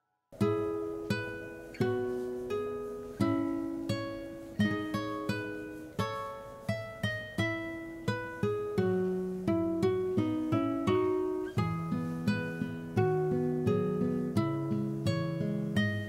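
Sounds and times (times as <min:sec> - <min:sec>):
plucked acoustic string music: 0:00.4 - 0:16.0.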